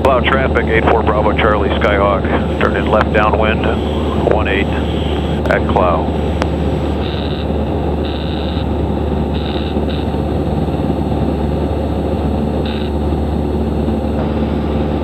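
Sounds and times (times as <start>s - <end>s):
airplane engine droning in cabin: 0.0s - 15.0s.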